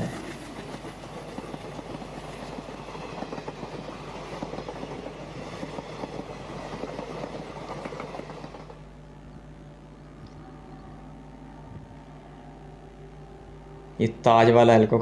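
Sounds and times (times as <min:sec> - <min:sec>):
low train hum: 0:00.0 - 0:15.0.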